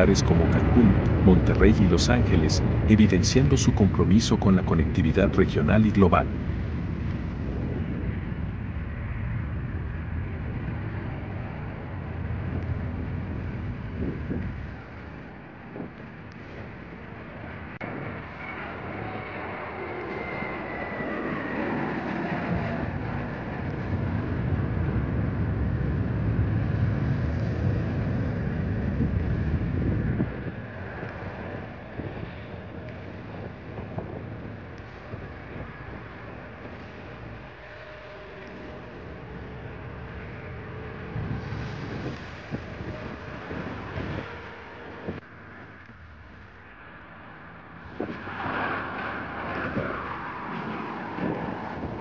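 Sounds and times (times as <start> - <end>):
distant airport noise: 0.0 - 52.0
jet engines rumbling: 0.0 - 52.0.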